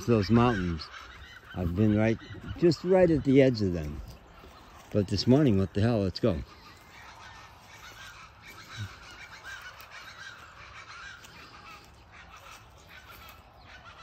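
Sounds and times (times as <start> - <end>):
birds calling in chorus: 0.0 - 14.0.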